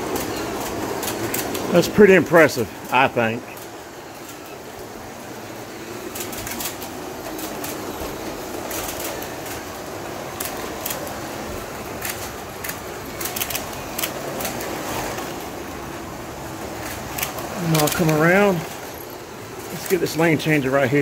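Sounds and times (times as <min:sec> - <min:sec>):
slot car motors whirring: 0:00.0 - 0:21.0
slot cars clicking on track: 0:00.0 - 0:21.0.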